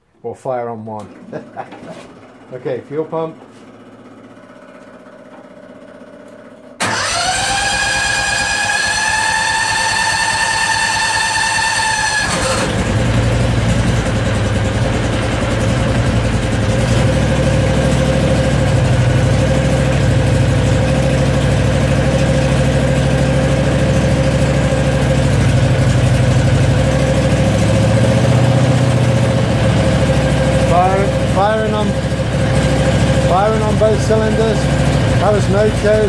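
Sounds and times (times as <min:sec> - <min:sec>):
engine starting and running: 0:01.0 - 0:36.0.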